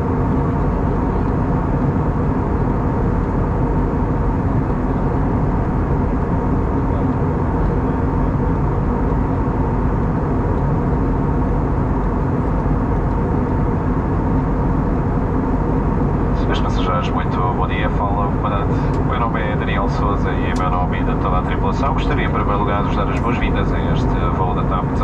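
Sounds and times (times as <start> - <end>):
airplane cabin airflow and engine drone: 0.0 - 25.0
faint steady hum tones: 0.0 - 25.0.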